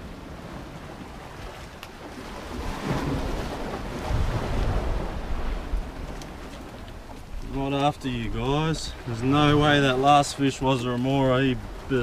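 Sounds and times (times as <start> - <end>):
waves washing against rocks: 0.0 - 12.0
wind buffeting microphone: 2.3 - 12.0.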